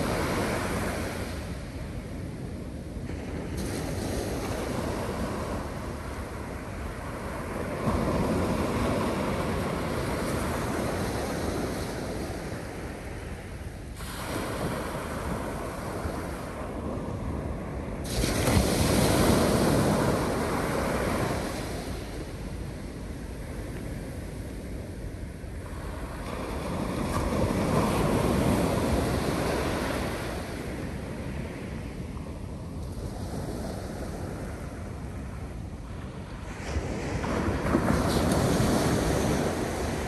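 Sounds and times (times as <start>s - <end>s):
waves breaking on a beach: 0.0s - 40.0s
wind hissing across microphone: 0.0s - 40.0s.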